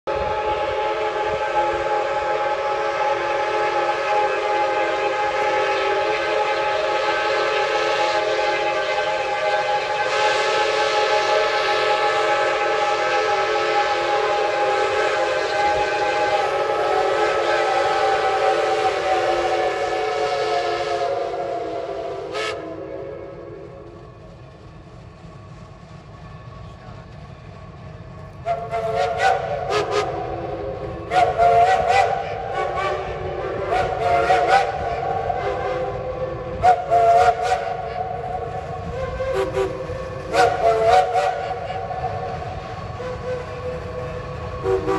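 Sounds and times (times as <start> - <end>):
steam locomotive chime whistle: 0.1 - 24.0, 28.4 - 44.9
steam hissing: 0.1 - 27.0, 28.4 - 44.9.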